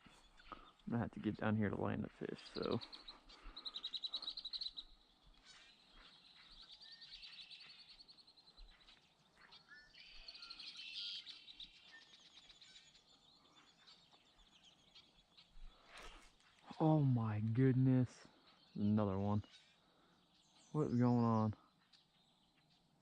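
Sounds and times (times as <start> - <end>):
small birds trilling and chirping: 0.0 - 23.0.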